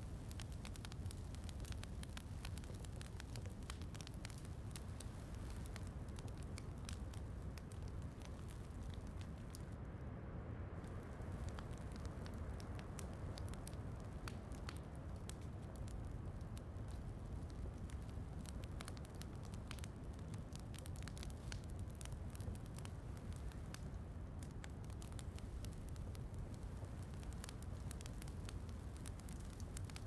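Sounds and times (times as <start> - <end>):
wood fire crackling: 0.0 - 10.0, 10.8 - 30.0.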